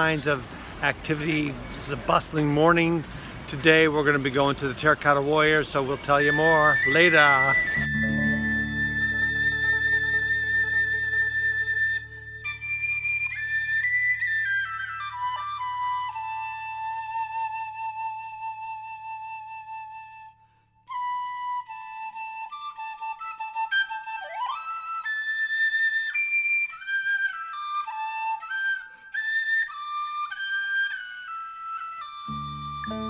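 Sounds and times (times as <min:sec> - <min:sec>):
solo flute melody: 0:06.0 - 0:33.0.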